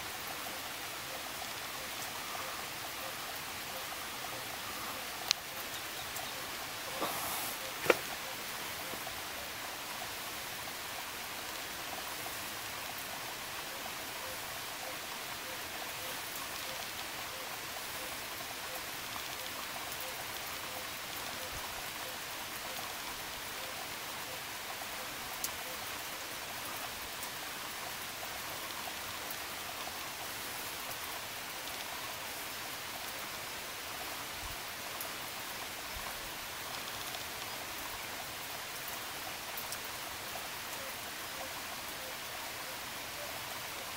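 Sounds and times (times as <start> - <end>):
light rain pattering: 0.0 - 43.9.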